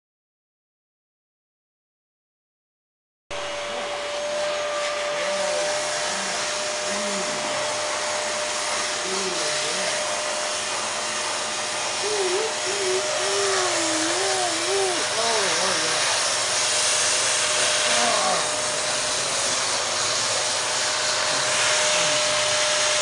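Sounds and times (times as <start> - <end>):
vacuum cleaner running: 3.3 - 23.0.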